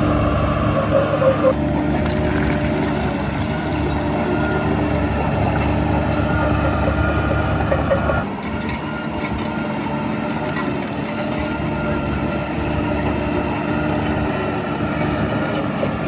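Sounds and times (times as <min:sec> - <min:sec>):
diesel earthmoving machinery rumbling: 0:00.0 - 0:16.0.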